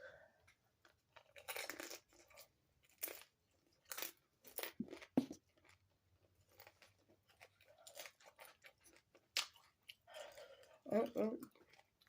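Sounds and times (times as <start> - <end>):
chewing and crunching food: 0.4 - 12.0.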